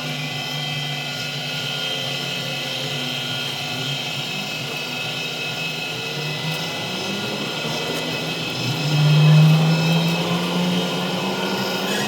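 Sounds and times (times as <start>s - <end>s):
machine droning: 0.0s - 12.0s.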